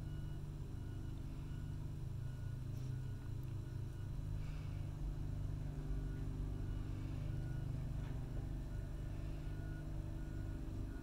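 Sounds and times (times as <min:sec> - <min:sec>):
machinery engine drone: 0:00.0 - 0:11.0.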